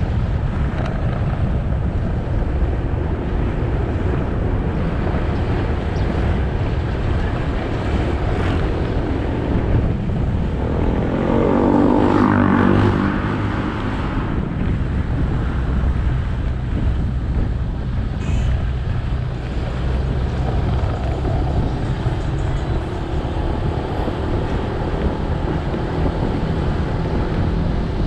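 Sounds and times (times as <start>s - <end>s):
motorcycle engine running: 0.0s - 28.0s
road noise: 0.0s - 28.0s
wind buffeting microphone: 0.0s - 28.0s.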